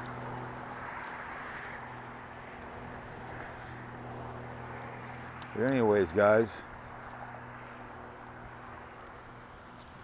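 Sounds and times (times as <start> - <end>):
distant motor vehicle hum: 0.0 - 10.0.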